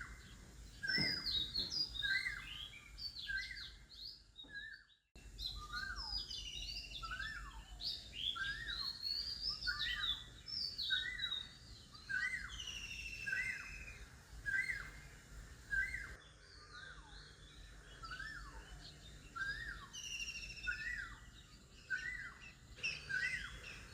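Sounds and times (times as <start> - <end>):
birds singing and calling: 0.0 - 23.9
high falling bird chirps and trills: 0.0 - 23.9.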